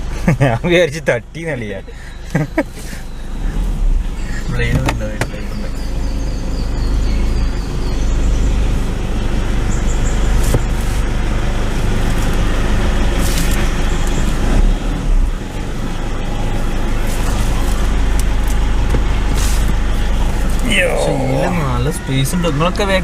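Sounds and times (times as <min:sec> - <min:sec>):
road and engine noise in car cabin: 0:00.0 - 0:23.0.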